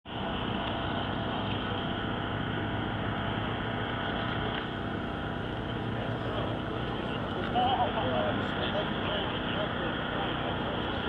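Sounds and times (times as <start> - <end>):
outdoor background rumble: 0.1 - 11.0.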